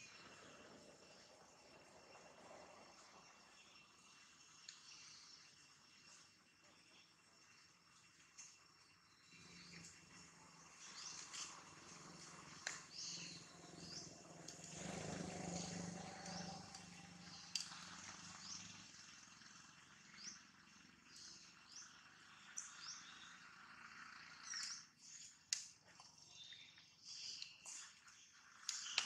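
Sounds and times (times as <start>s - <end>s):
low hum: 0.0s - 24.8s
faint forest ambience: 0.0s - 29.0s.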